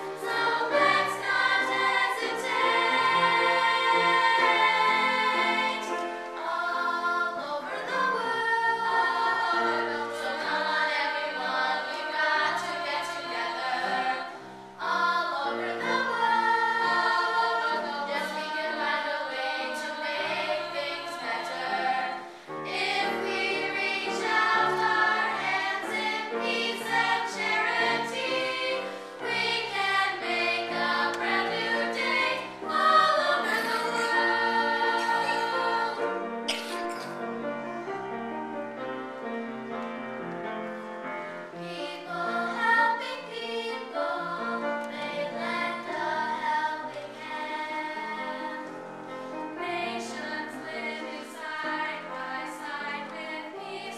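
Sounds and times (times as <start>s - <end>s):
girls' chorus singing: 0.0s - 37.1s, 41.4s - 53.9s.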